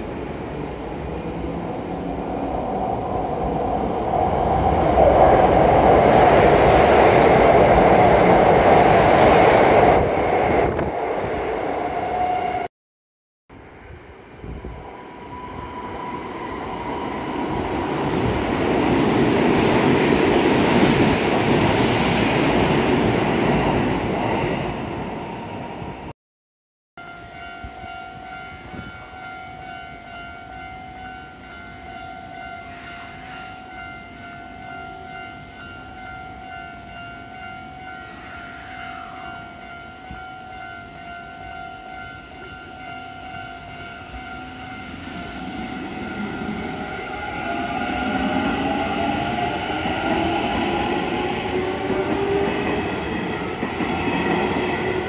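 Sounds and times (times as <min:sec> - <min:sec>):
electric train arriving: 0:00.0 - 0:12.7, 0:13.6 - 0:26.1, 0:27.0 - 0:55.0.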